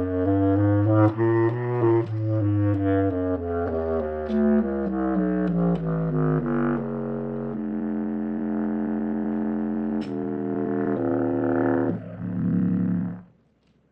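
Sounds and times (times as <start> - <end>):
buzzy bass clarinet notes: 0.0 - 13.4.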